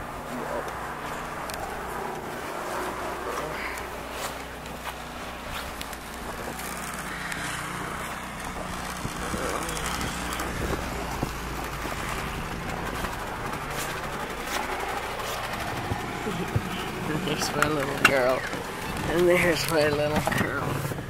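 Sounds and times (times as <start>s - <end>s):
snowblower engine running: 0.0s - 21.0s.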